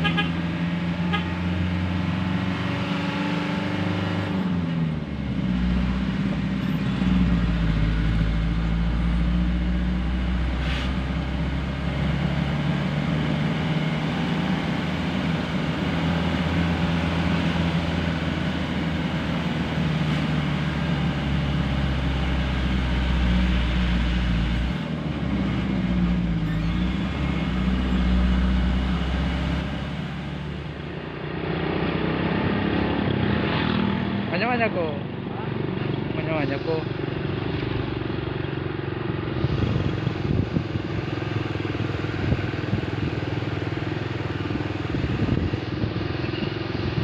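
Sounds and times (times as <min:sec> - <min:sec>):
truck engine running: 0:04.4 - 0:31.8, 0:34.6 - 0:47.0.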